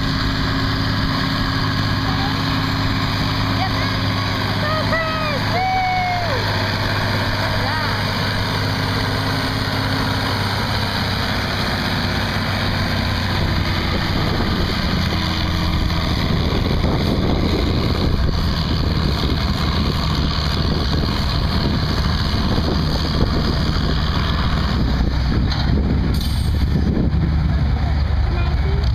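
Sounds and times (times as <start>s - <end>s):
tractor engine running under load: 0.0s - 28.9s.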